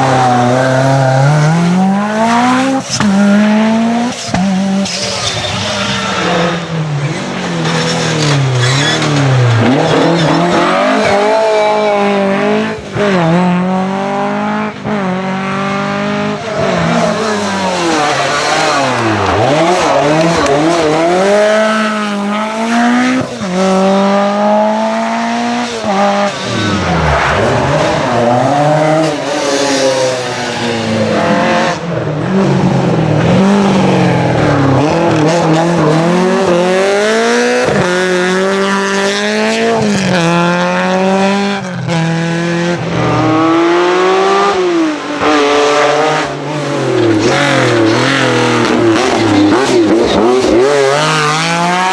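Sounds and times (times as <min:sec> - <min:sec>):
rally car engine revving: 0:00.0 - 0:51.9.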